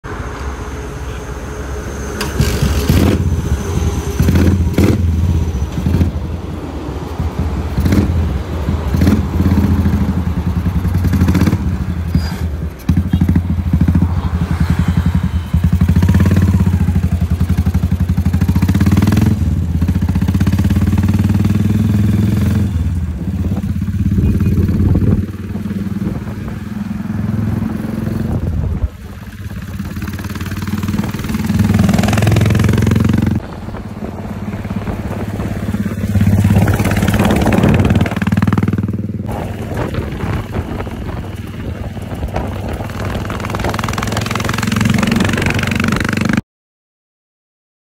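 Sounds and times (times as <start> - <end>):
motorcycle engine running: 2.3 - 46.4.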